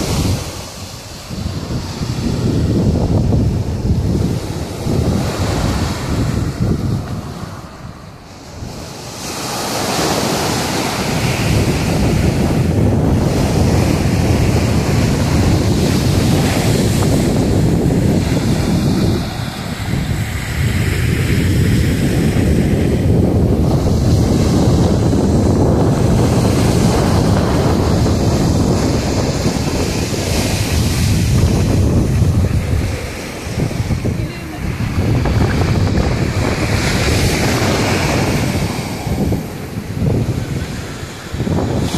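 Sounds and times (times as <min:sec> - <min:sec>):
surf breaking on sandy shore: 0:00.0 - 0:41.9
wind blowing across microphone: 0:00.0 - 0:41.9.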